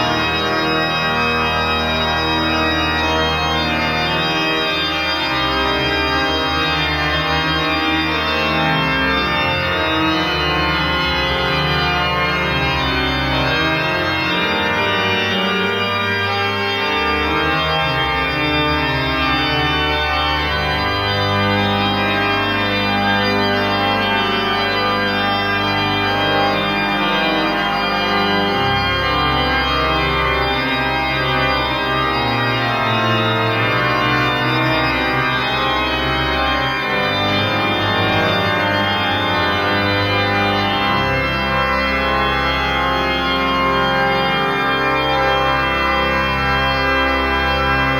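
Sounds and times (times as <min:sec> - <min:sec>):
organ playing sustained chords: 0:00.0 - 0:47.9.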